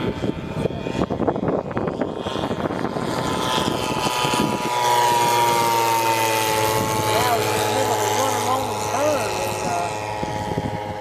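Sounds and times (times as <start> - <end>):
model plane engine running: 0.0 - 11.0
steady low hum: 0.0 - 11.0.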